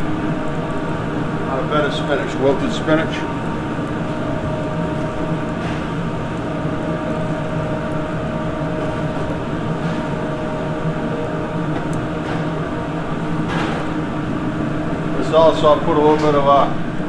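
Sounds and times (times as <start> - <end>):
kitchen fans droning: 0.0 - 17.0.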